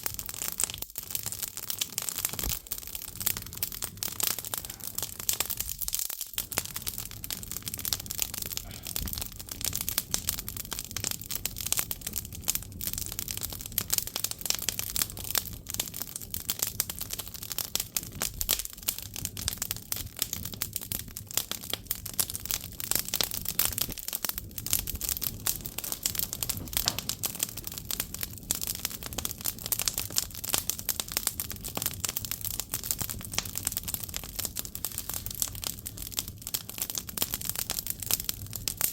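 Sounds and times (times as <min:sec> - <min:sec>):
firewood crackling: 0:00.0 - 0:38.9.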